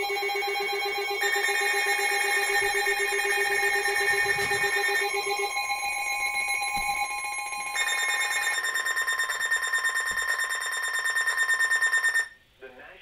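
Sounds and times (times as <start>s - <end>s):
rapid electronic beeping: 0.0s - 12.3s
electronic alarm tones: 0.0s - 12.4s.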